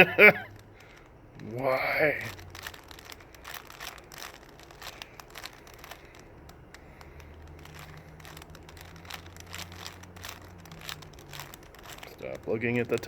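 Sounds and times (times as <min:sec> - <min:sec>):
puzzle cube clicking and rattling: 0:00.0 - 0:13.0.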